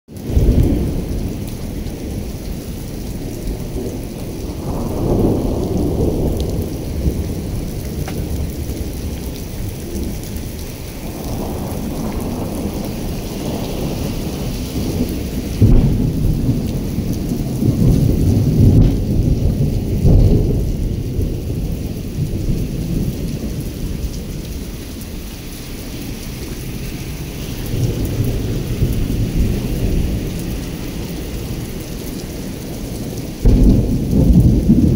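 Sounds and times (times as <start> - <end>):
heavy rain on wet pavement: 0.1 - 34.9
low rumbles of thunder: 0.2 - 34.9.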